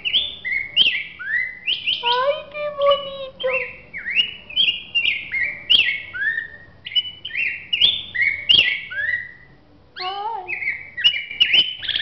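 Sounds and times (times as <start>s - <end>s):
bird singing whistled phrases: 0.0s - 12.0s.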